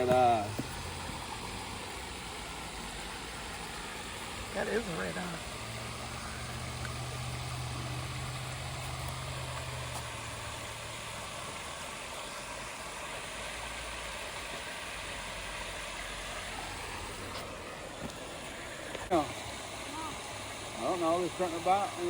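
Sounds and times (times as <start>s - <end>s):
creek water rushing: 0.0s - 22.0s
low motor hum: 0.0s - 22.0s.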